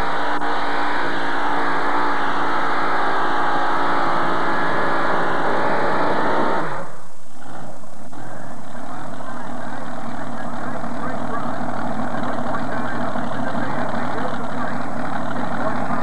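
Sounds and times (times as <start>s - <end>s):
tractor engines running flat out: 0.0s - 16.0s.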